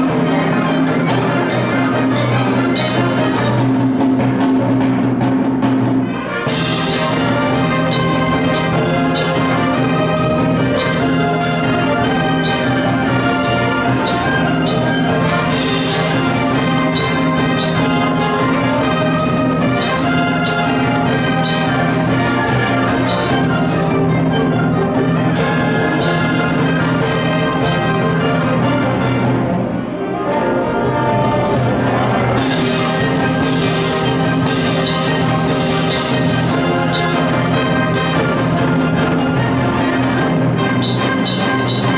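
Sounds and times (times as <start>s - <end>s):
brass: 0.0s - 41.9s
concert band playing: 0.0s - 41.9s
percussion: 0.0s - 41.9s.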